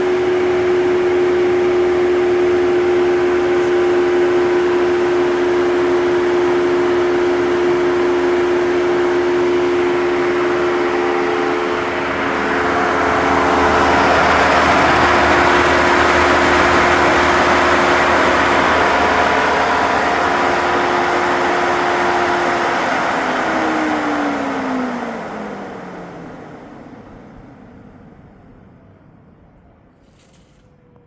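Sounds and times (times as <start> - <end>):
cooling fans whirring with whine: 0.0 - 31.0.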